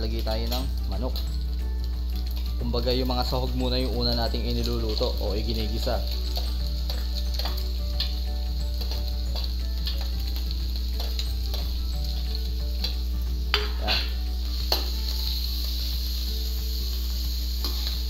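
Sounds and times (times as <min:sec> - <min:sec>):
food sizzling in wok: 0:00.0 - 0:18.0.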